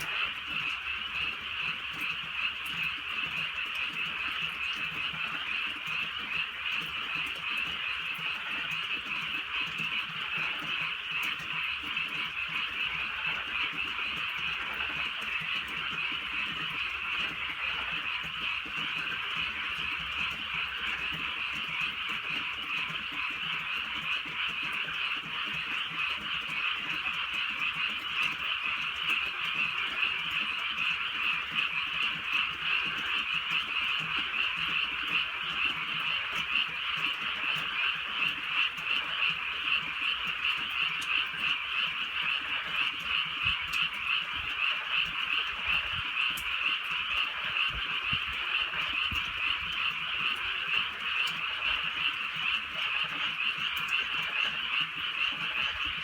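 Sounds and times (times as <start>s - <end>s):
frogs chorus: 0.0s - 56.0s.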